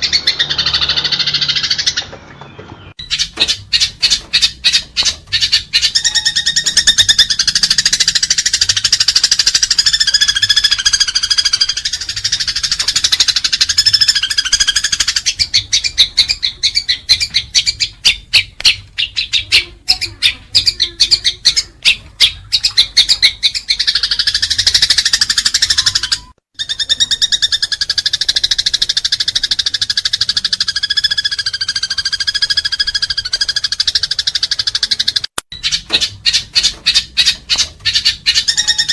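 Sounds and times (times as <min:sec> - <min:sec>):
sparrows chattering: 0:00.0 - 0:38.9.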